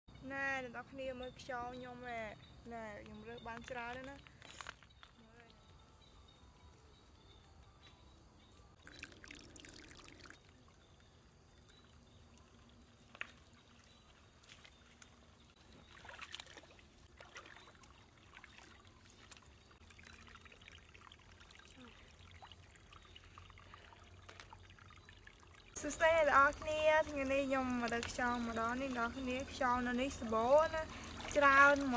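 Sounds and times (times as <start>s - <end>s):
water trickling in a stream: 0.6s - 7.5s, 8.4s - 31.9s
crackly splashing or rustling: 2.9s - 5.8s, 8.7s - 31.9s.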